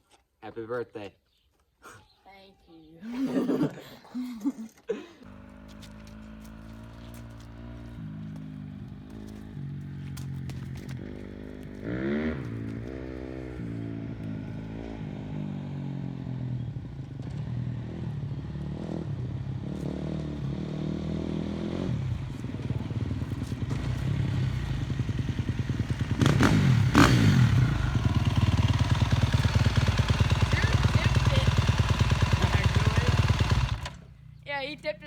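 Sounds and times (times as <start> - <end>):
dirt bike engine revving: 5.2 - 34.2.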